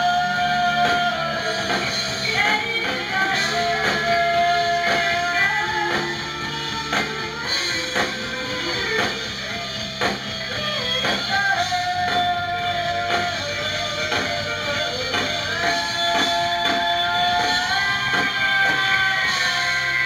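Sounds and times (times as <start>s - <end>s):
person singing: 0.0s - 20.0s
rock music with guitar and drums: 0.0s - 20.0s.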